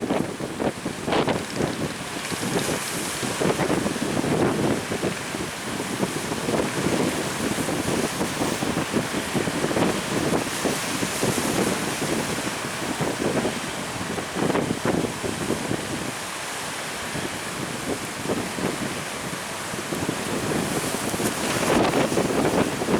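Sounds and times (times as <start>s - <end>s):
waves and surf: 0.0s - 22.9s
wind buffeting microphone: 0.0s - 22.9s.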